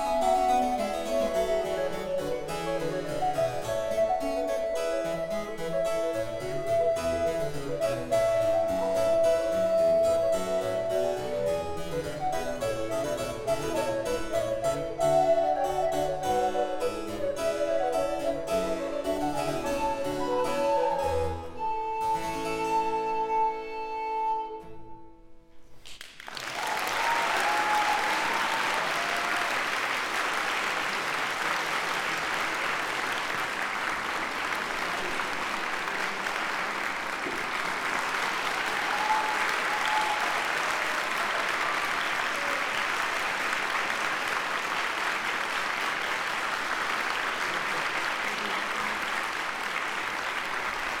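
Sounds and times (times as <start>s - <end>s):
audience applause: 0.0s - 21.2s, 25.8s - 51.0s.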